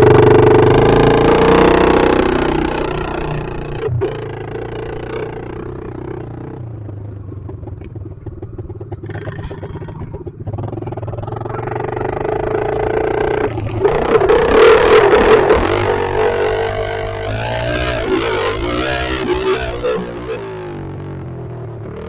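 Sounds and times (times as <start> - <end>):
small motorcycle engine revving: 0.0 - 22.0.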